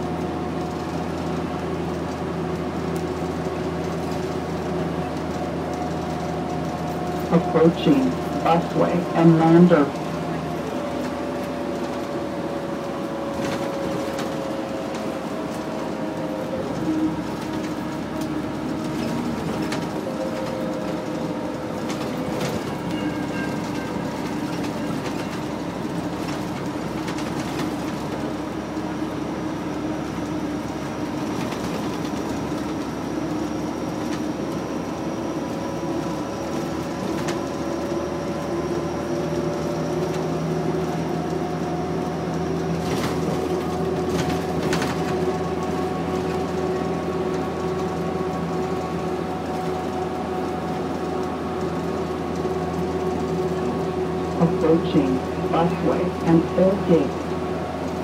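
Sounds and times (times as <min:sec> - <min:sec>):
bus body rattles and clicks: 0:00.0 - 0:58.0
bus engine whine: 0:00.0 - 0:58.0.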